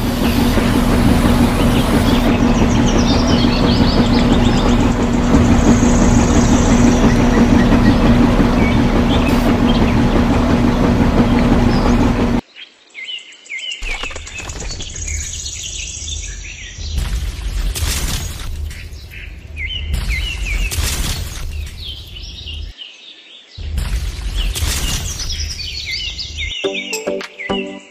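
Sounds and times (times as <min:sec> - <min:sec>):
birds chirping: 0:00.0 - 0:17.7, 0:18.6 - 0:20.8, 0:21.4 - 0:27.9.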